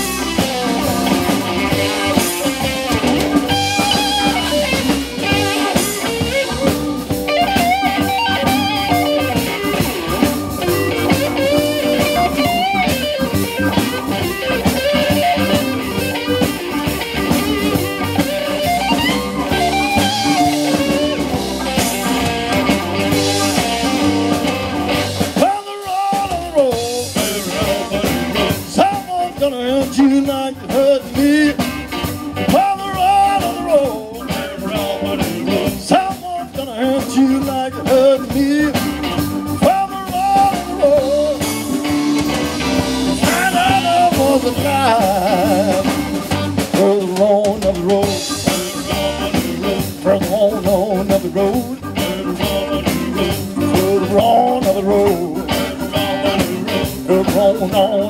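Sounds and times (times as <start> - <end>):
blues-rock band playing: 0.0 - 58.0.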